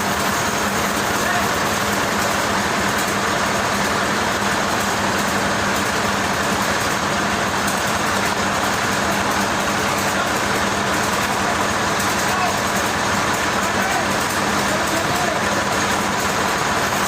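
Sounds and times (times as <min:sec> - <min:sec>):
heavy machinery running: 0:00.0 - 0:17.0.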